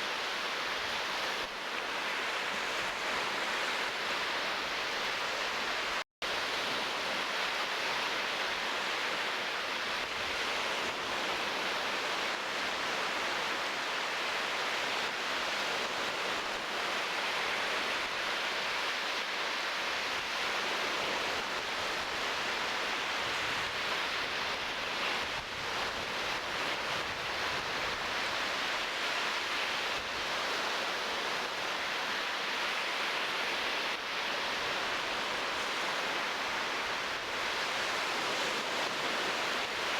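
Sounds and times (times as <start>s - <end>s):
surf rushing along shore: 0.0s - 39.9s.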